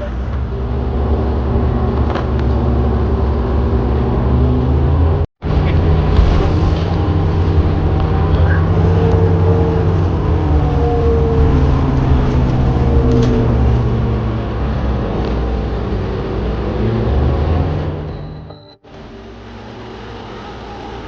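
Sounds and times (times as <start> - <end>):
car rumbling along road: 0.0 - 21.0.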